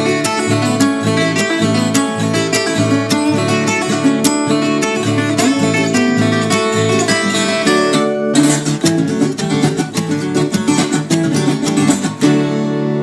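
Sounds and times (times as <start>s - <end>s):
folk guitar plucked and strummed: 0.0s - 13.0s.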